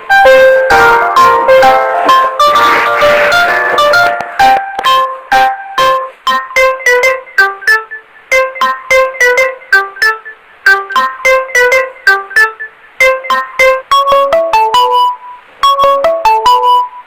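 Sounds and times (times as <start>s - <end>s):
alarm tone melody: 0.0s - 17.0s.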